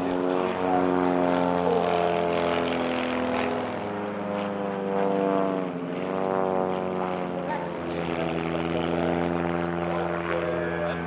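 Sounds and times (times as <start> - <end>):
propeller planes droning: 0.0 - 11.0.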